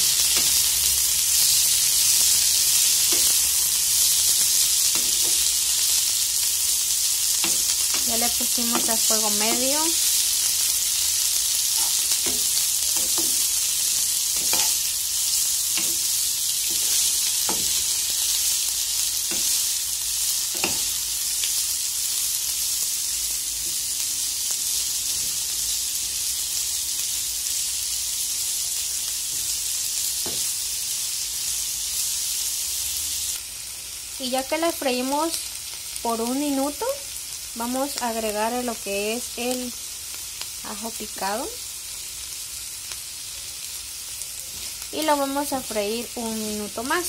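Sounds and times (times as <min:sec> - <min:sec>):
onion sizzling in hot oil: 0:00.0 - 0:47.0.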